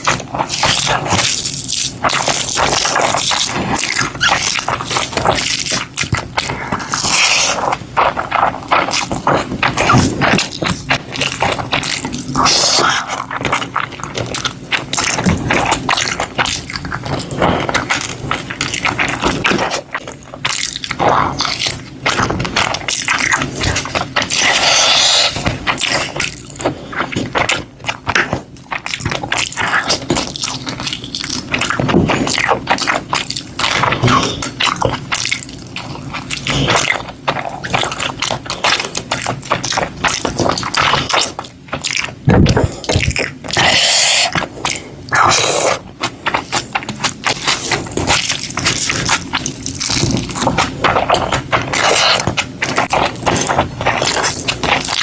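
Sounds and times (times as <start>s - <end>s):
chewing and biting: 0.0s - 55.0s
crackling mouth clicks: 0.0s - 55.0s.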